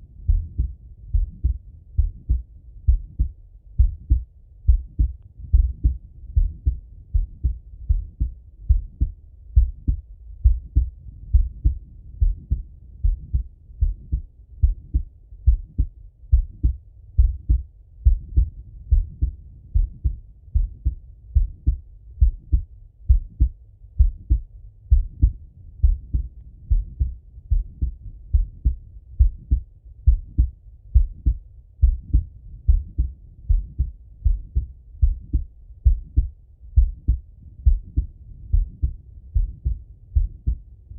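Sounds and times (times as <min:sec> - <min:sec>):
heartbeat through stethoscope: 0:00.0 - 0:40.9.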